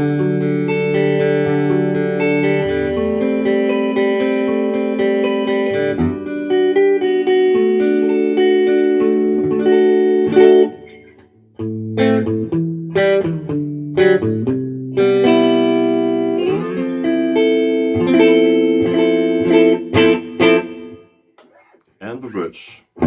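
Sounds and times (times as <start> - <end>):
electric guitar through amplifier: 0.0 - 21.8.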